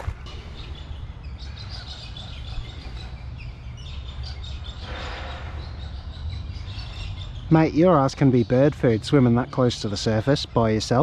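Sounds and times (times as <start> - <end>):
steady low rumble: 0.0 - 10.5
birds chirping and twittering: 0.0 - 11.0.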